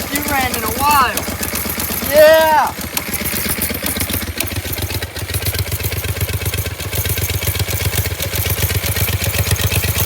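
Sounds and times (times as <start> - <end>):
small engine idling rough: 0.0 - 10.0.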